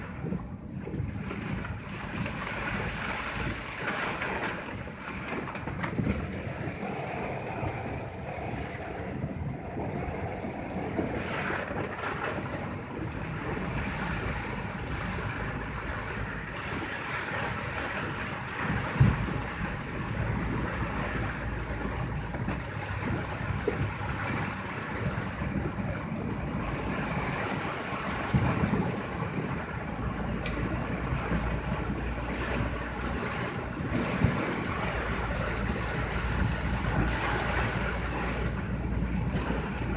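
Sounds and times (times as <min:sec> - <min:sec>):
wind and water rushing: 0:00.0 - 0:39.9
wind rumble on microphone: 0:00.0 - 0:39.9.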